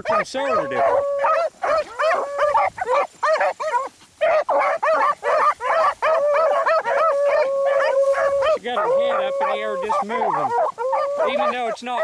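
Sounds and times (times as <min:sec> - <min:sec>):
long drawn-out dog bawl: 0:00.0 - 0:11.8
beagles baying: 0:00.0 - 0:12.0.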